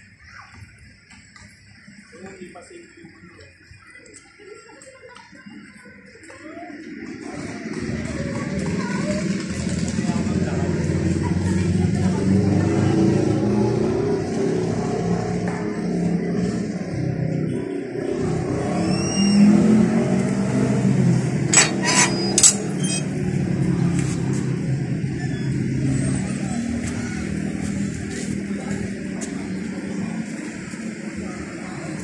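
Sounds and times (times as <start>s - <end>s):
vehicles passing on street: 0.0s - 32.0s.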